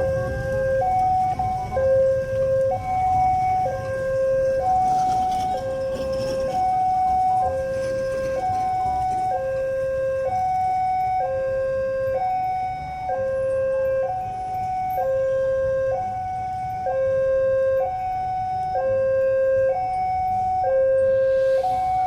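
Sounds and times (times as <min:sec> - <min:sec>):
two-tone level crossing alarm: 0:00.0 - 0:22.0.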